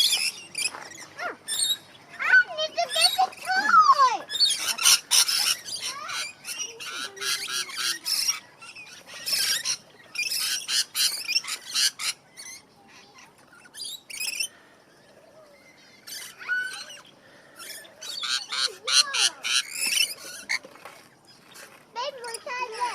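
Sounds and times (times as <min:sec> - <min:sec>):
aviary birds squawking and chirping: 0:00.0 - 0:22.9.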